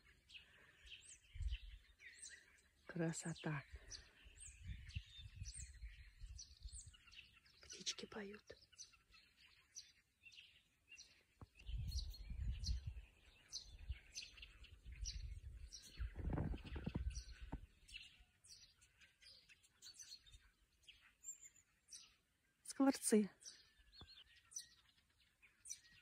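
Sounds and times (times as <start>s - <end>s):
starlings chirping and whistling: 3.5s - 22.2s, 23.4s - 26.0s.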